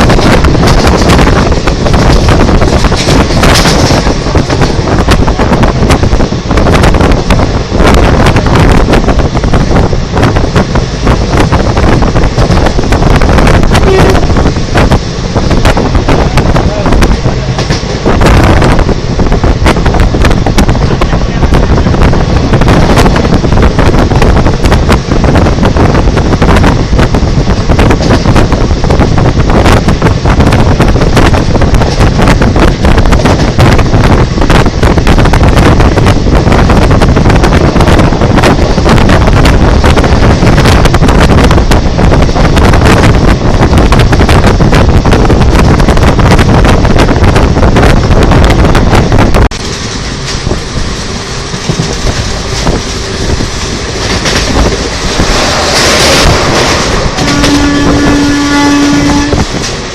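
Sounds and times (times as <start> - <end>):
train rumble and wheel clatter: 0.0 - 59.9
wind buffeting microphone: 0.0 - 59.9.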